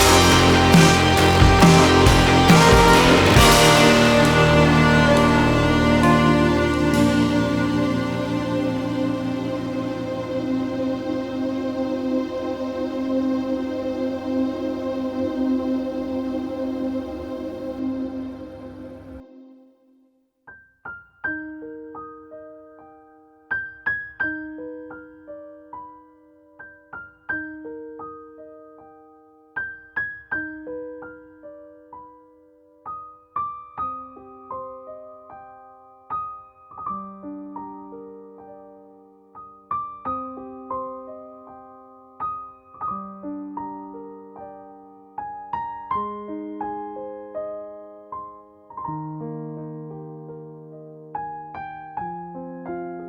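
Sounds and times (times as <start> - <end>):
gentle piano melody: 0.0 - 19.6, 20.5 - 53.0.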